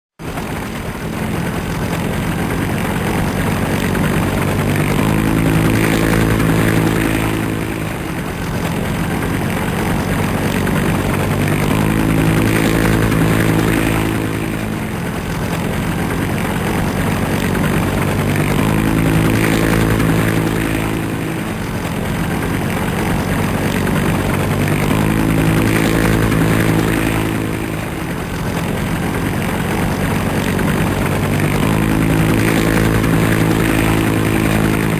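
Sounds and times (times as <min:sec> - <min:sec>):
helicopter engine and rotor drone: 0:00.2 - 0:34.9.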